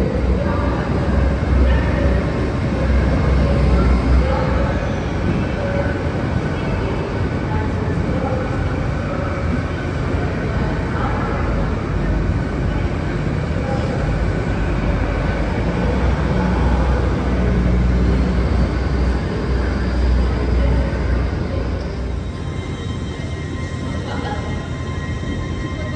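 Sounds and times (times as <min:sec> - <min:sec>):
train hum and wheel rumble: 0:00.0 - 0:25.9.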